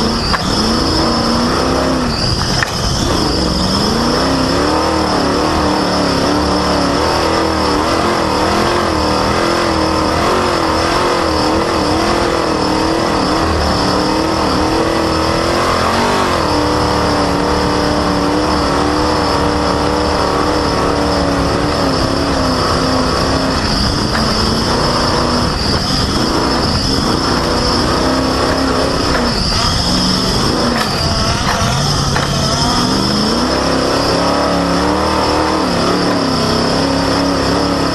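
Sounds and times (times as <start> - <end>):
off-road vehicle engine revving: 0.0 - 37.9
squeaky drive belt squeal: 0.0 - 37.9.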